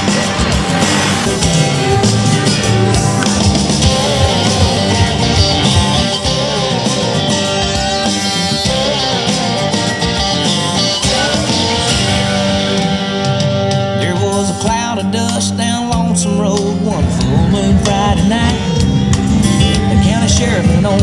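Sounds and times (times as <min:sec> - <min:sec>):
country-rock instrumental music: 0:00.0 - 0:21.0.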